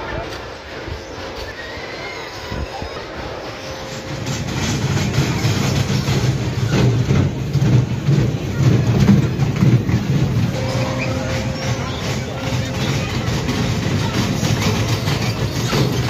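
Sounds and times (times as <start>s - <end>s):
roller coaster wheels rumbling: 0.0s - 16.0s.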